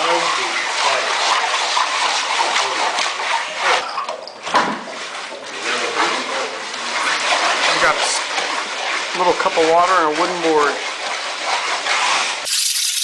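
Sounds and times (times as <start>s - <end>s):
water splashing and sloshing: 0.0s - 12.5s.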